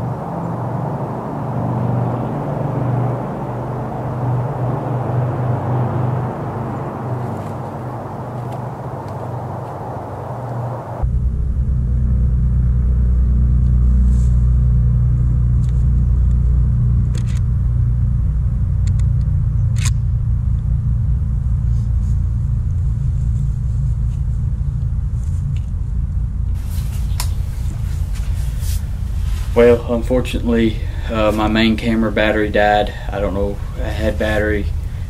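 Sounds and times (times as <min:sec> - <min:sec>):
low steady rumble: 0:00.0 - 0:35.0.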